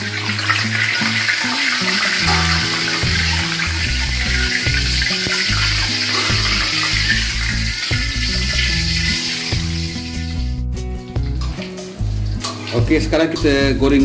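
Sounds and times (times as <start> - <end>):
oil sizzling in a wok: 0.0 - 14.0.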